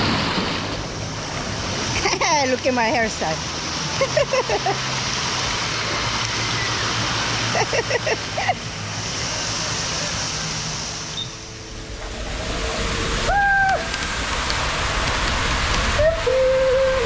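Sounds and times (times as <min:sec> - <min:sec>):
water rushing through slide tube: 0:00.0 - 0:17.0.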